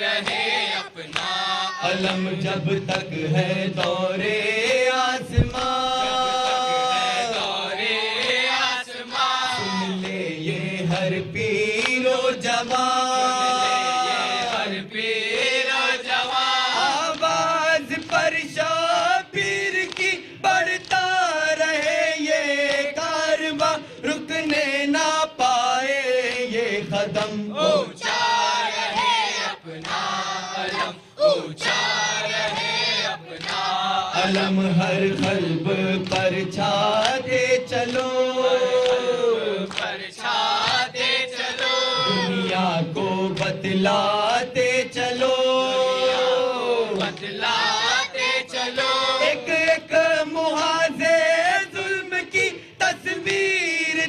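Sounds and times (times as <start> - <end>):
young male voices chanting: 0.0 - 54.0.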